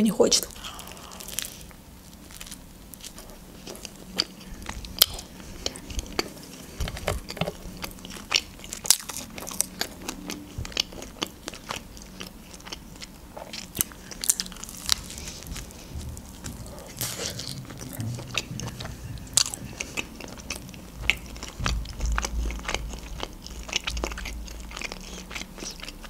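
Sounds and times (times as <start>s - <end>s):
crunchy chewing: 0.5s - 26.0s.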